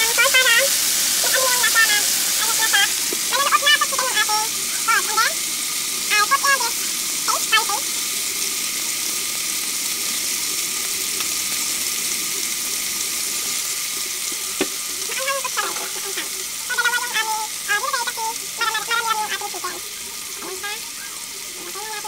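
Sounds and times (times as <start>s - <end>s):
chicken sizzling in oil: 0.0s - 22.0s.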